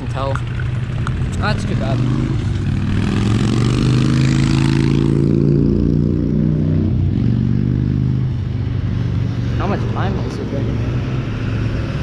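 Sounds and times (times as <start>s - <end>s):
vehicle passing with tyre noise: 0.0s - 12.0s.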